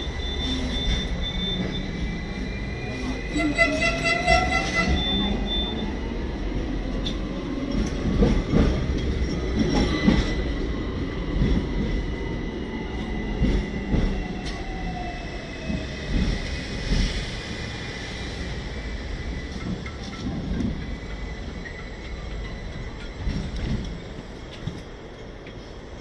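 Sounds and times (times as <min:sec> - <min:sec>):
tram rumble: 0:00.0 - 0:26.0.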